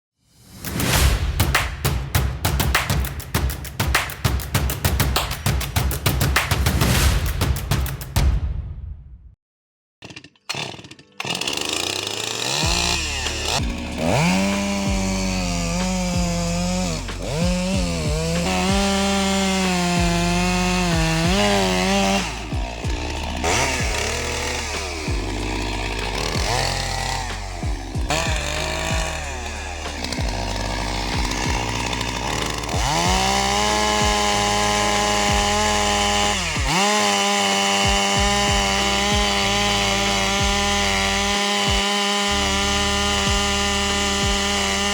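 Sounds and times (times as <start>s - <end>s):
chainsaw cutting wood: 0.6s - 8.2s, 10.0s - 44.9s.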